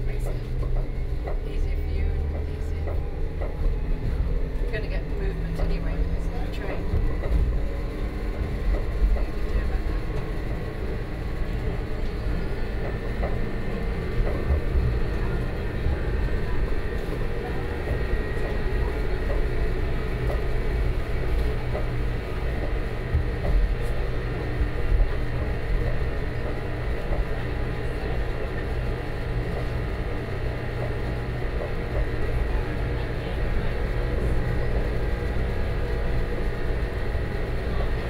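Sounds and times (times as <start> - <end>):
train low rumble: 0.0 - 38.0.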